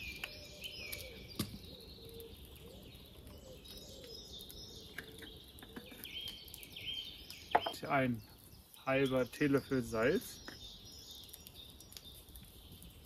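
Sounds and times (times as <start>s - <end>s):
high bird chirping: 0.0s - 12.8s.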